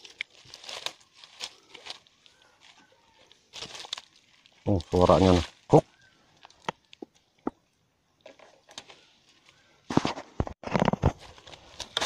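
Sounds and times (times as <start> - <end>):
twigs and leaves crackling: 0.0 - 12.0.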